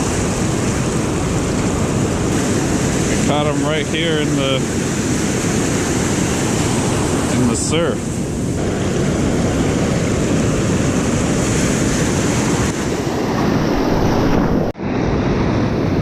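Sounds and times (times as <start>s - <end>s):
ocean surf: 0.0s - 16.0s
wind buffeting microphone: 0.0s - 16.0s.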